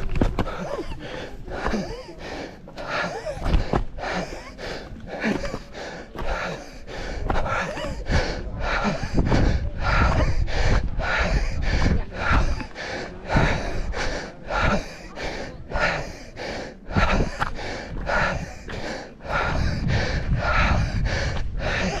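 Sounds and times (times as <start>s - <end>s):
person breathing hard: 0.0s - 22.0s
wind buffeting microphone: 3.4s - 22.0s.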